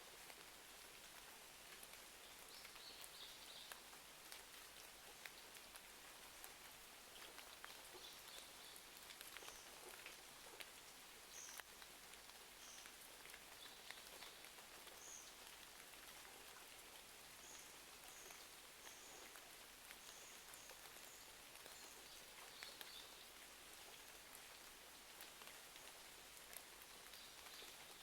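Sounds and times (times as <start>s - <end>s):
faint rain hiss: 0.0s - 28.0s.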